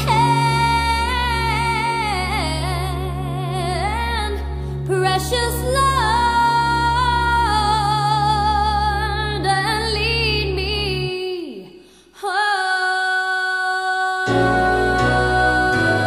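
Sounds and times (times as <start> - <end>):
bass: 0.0 - 11.4, 14.3 - 16.0
woman singing gospel song: 0.0 - 16.0.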